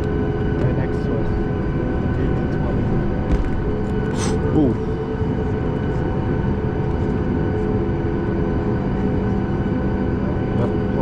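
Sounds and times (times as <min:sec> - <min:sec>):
aircraft cabin rumble: 0:00.0 - 0:11.0
jet engines whining: 0:00.0 - 0:11.0.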